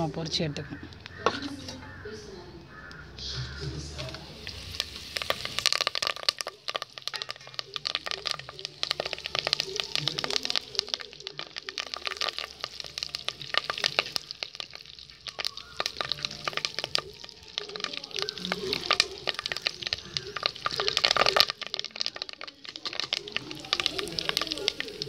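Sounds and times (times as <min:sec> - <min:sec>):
leaves crackling in hot oil: 0:00.0 - 0:02.0, 0:02.8 - 0:25.0.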